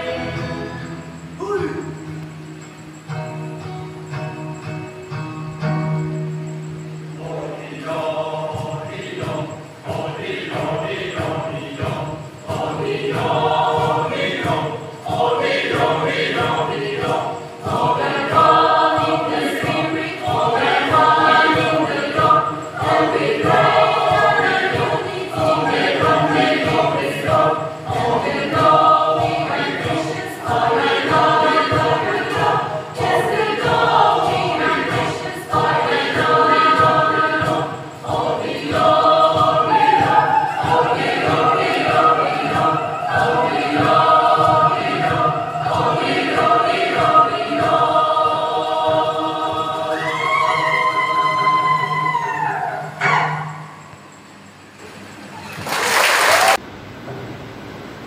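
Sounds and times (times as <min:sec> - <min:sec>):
mixed choir singing a hymn: 0:00.0 - 0:02.9, 0:05.6 - 0:54.0.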